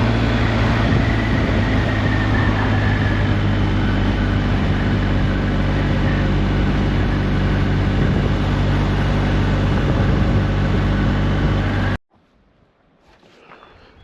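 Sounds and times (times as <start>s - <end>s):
motorcycle engine cruising: 0.0s - 12.0s
wind and road noise: 0.0s - 14.0s.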